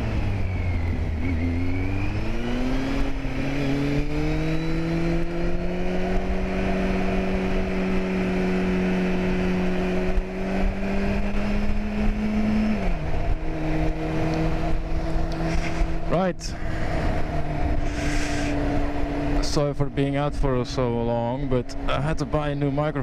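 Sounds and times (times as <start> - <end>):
motorcycle engine running: 0.0 - 23.0
wind noise: 0.0 - 23.0.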